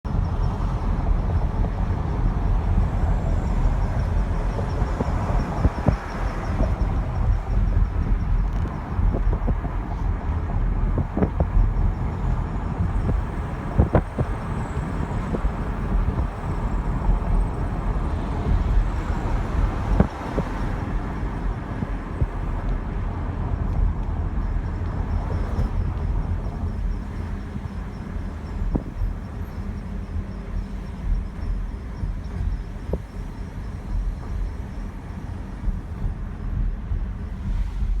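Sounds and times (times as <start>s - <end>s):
road and tyre rumble: 0.0s - 38.0s.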